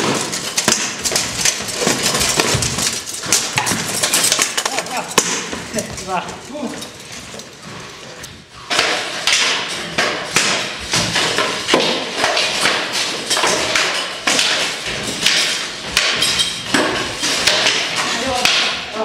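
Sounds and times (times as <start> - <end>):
rattan swords striking armour: 0.0 - 5.8, 8.7 - 18.9.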